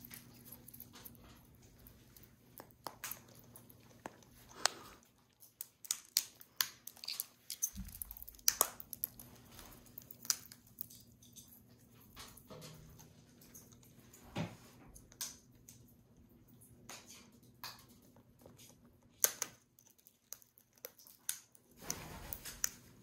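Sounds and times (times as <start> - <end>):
parrots cracking nut shells: 0.0 - 14.2, 14.9 - 22.8.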